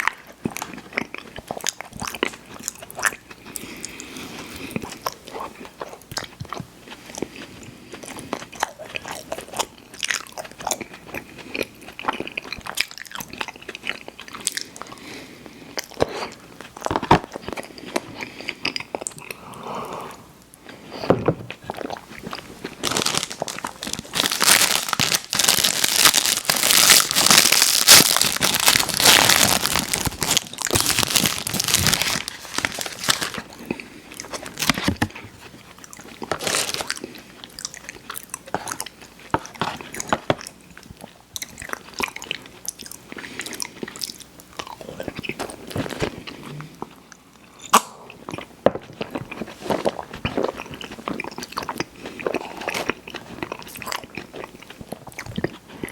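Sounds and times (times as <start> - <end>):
crunchy chewing: 0.0 - 19.5, 21.5 - 55.9.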